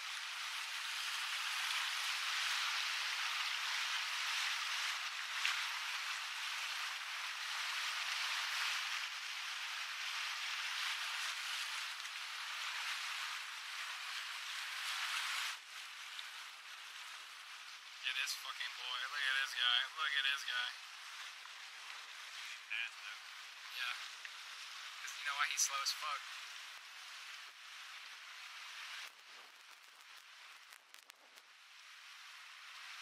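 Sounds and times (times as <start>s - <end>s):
wind and water rushing: 0.0s - 30.3s.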